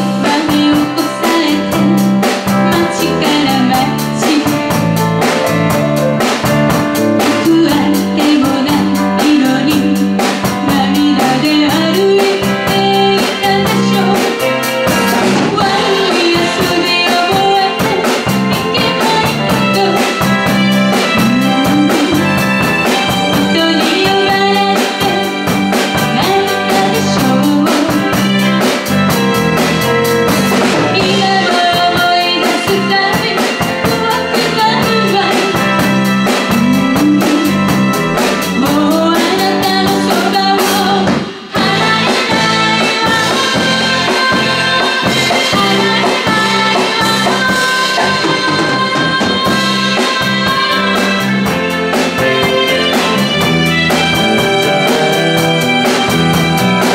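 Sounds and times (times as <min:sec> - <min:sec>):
woman singing: 0:00.0 - 0:29.0, 0:30.9 - 0:55.1
bass guitar: 0:00.0 - 0:56.9
drum kit: 0:00.0 - 0:56.9
electric guitar: 0:00.0 - 0:56.9
keyboard: 0:00.0 - 0:56.9.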